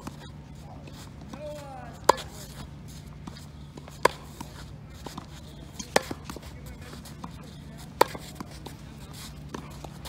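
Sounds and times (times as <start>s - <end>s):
footsteps on clay court: 0.0s - 10.0s
tennis ball hit by racket: 1.2s - 10.0s.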